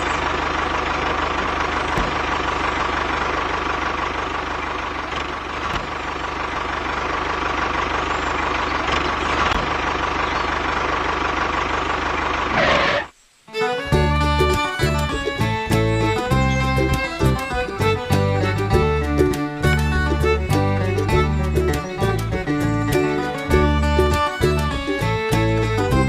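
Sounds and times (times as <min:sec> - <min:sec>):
tractor engine idling: 0:00.0 - 0:26.0.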